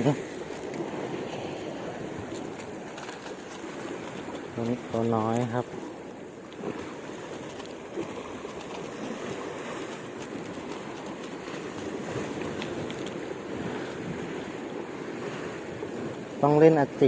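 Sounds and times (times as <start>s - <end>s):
sea waves on shore: 0.0s - 17.0s
strong wind: 0.0s - 17.0s.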